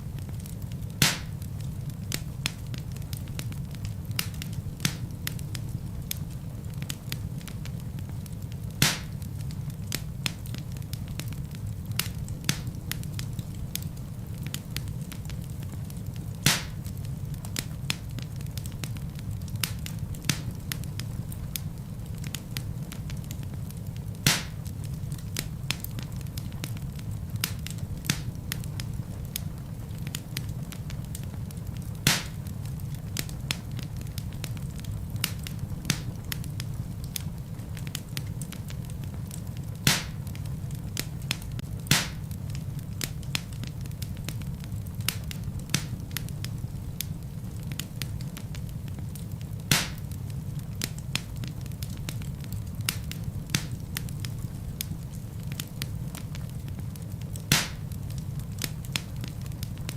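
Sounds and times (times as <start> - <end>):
low rumble of flame: 0.0 - 59.9
wood fire crackling: 0.0 - 59.9
sharp pops from burning logs: 0.1 - 59.9.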